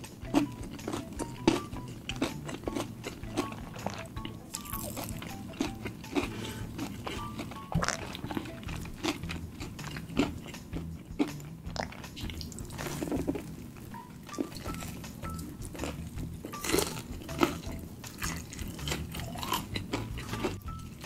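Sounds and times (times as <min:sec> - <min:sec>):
crunchy chewing of fried chicken: 0:00.0 - 0:21.0.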